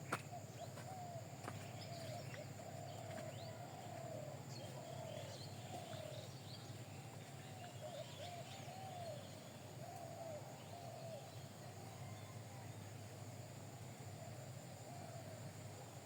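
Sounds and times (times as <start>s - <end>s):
birds cooing: 0.3s - 12.8s, 14.2s - 15.5s.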